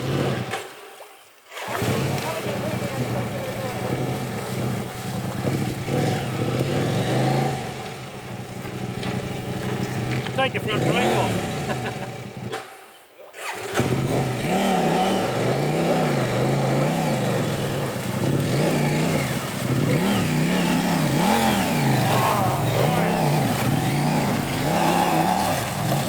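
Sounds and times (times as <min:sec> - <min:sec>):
motorcycle engine revving: 0:00.0 - 0:00.7, 0:01.5 - 0:26.0.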